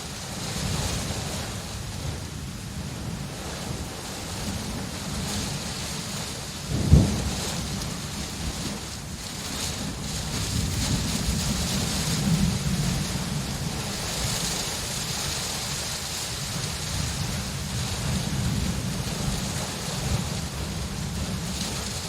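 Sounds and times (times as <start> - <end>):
rolling rumble of thunder: 0.0 - 22.0
steady rain hissing: 0.0 - 22.0.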